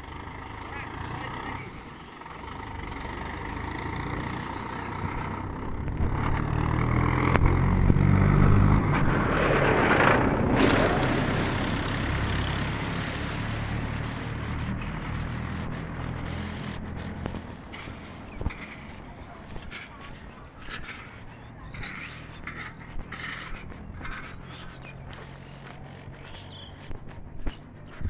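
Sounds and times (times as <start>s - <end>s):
vehicle passing by: 0.0s - 28.0s.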